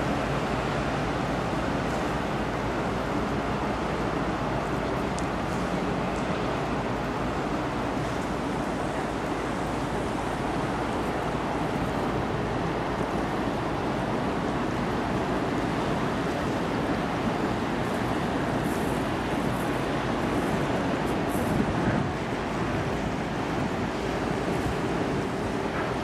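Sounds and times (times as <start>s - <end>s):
low rumble of passing ship: 0.0s - 26.0s
water along the shore: 0.0s - 26.0s
wind: 0.0s - 26.0s.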